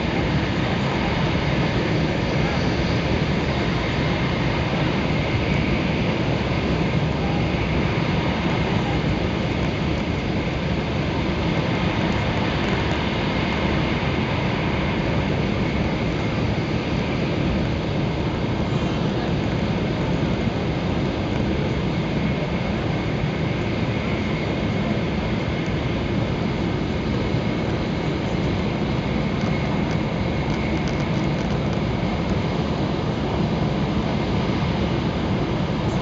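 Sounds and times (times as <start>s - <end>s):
train rumbling and rushing: 0.0s - 36.0s.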